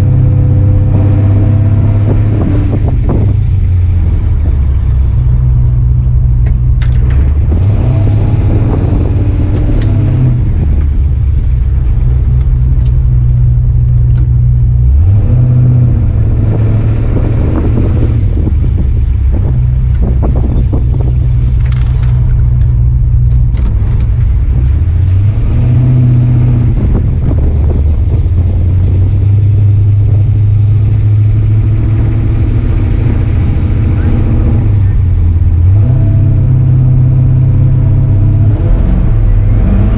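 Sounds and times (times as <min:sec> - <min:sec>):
pickup engine revving under load: 0:00.0 - 0:39.9.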